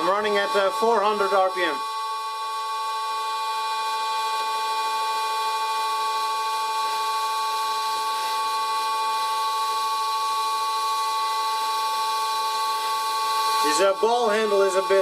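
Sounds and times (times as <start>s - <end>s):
metal lathe whining: 0.0s - 15.0s.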